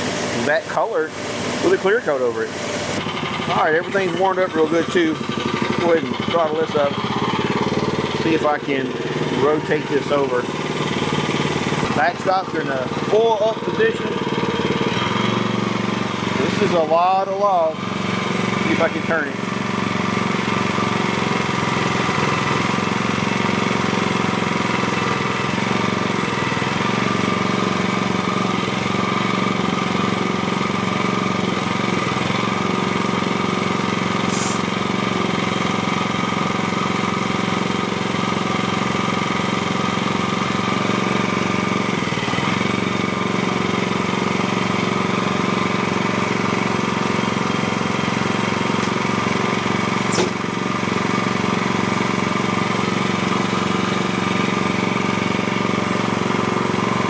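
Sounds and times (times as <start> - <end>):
small gasoline engine running: 0.0 - 57.0.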